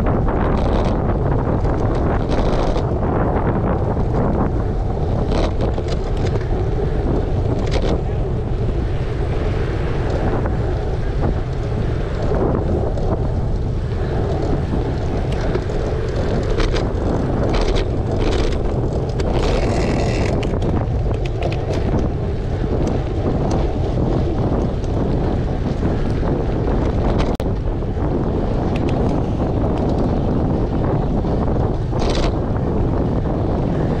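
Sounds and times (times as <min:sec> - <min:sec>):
low rumble: 0:00.0 - 0:34.0
wind buffeting microphone: 0:00.0 - 0:34.0.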